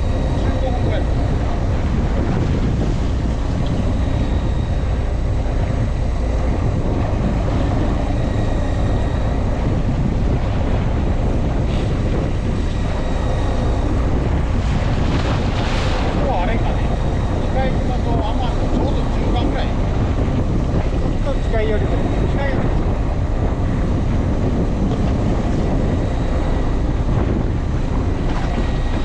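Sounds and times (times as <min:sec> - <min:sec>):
boat engine rumbling: 0:00.0 - 0:29.0
wind buffeting microphone: 0:00.0 - 0:29.0.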